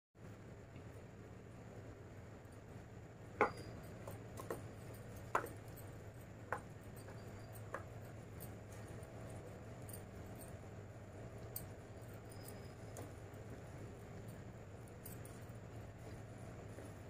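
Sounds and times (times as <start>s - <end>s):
low steady hum: 0.2s - 17.0s.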